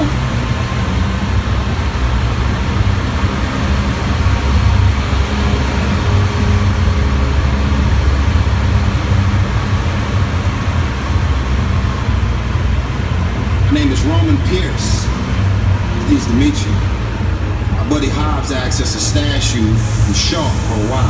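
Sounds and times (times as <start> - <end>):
tram engine and road rumble: 0.0 - 21.0.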